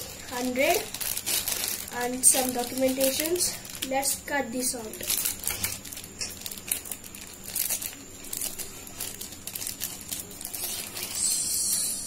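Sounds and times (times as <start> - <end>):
plastic packet crinkling: 0.0 - 11.4.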